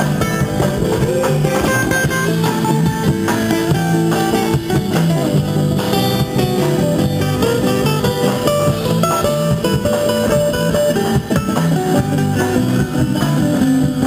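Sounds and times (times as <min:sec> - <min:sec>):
picked electric guitar notes: 0:00.0 - 0:14.0
strummed acoustic guitar: 0:00.0 - 0:14.0.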